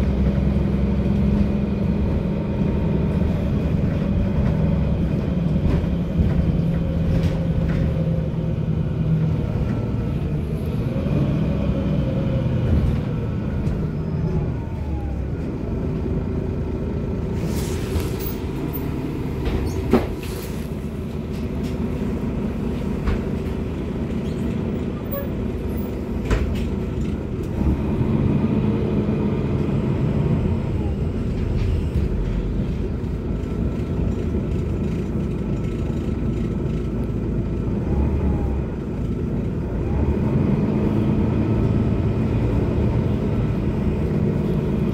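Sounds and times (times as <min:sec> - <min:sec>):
bus engine hum: 0:00.0 - 0:44.9.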